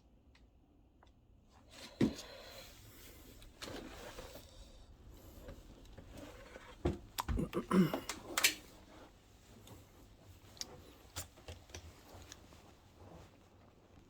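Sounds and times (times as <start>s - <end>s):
scraping and rustling handling noises: 1.7s - 7.2s, 7.8s - 14.0s.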